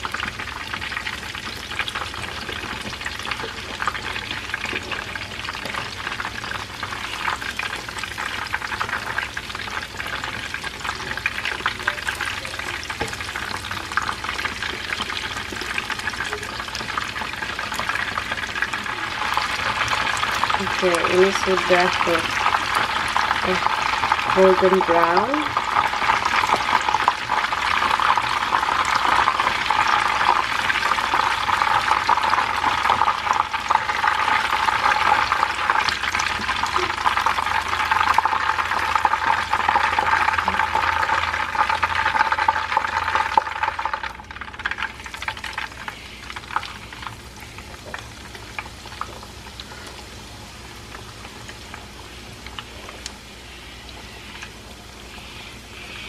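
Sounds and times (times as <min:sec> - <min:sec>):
chicken deep-frying in hot oil: 0:00.0 - 0:56.0.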